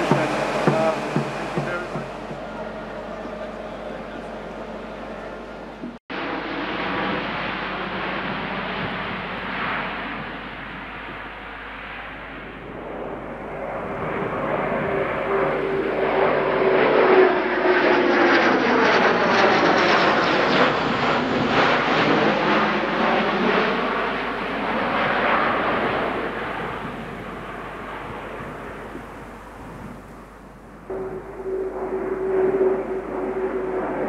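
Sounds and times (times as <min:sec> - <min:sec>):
turboprop aircraft flying past: 0:00.0 - 0:34.0.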